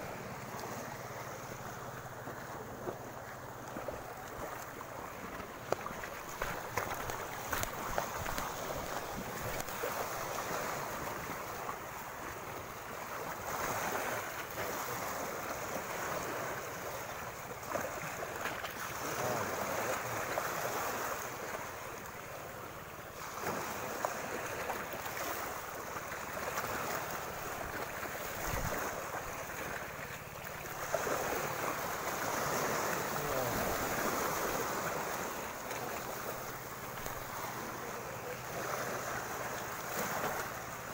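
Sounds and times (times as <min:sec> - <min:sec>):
sea waves washing ashore: 0:00.0 - 0:40.9.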